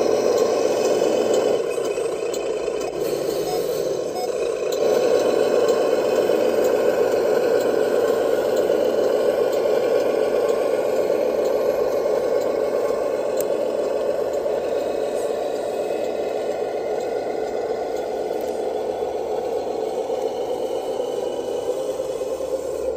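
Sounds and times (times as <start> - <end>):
radio-controlled truck driving: 0.0 - 22.9.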